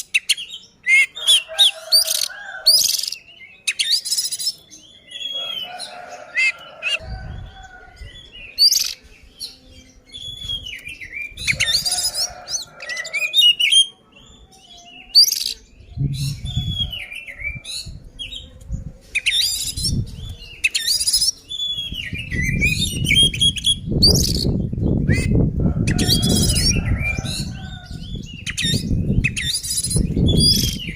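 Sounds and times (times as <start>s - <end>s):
bird singing varied song: 0.0s - 30.9s.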